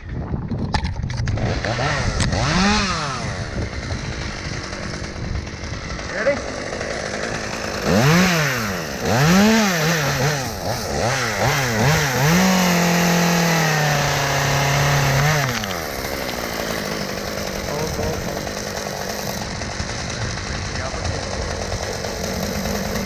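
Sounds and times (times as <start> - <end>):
chainsaw revving and cutting: 1.2 - 23.0.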